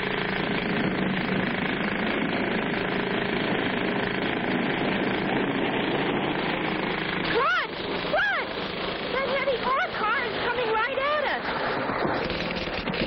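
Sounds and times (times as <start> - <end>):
cartoon vehicle rattling rumble: 0.0 - 13.0
low engine hum: 0.0 - 13.0.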